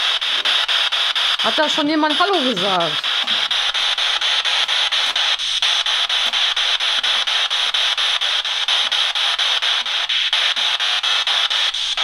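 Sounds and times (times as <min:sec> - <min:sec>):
radio static sweeping: 0:00.0 - 0:12.0.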